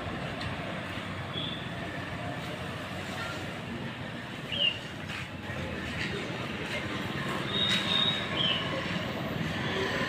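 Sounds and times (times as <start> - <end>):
diesel truck rumbling: 0.0 - 10.0.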